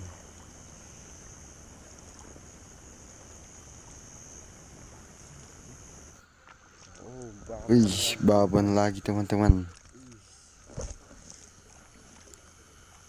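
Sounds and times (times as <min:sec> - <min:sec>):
insects high-pitched trill: 0:00.0 - 0:13.0
low background hiss: 0:00.0 - 0:13.0.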